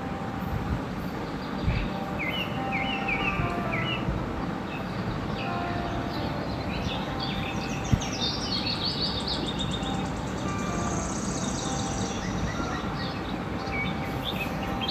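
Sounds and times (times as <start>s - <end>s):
low background noise: 0.0s - 14.9s
birds chirping and singing: 1.1s - 14.9s.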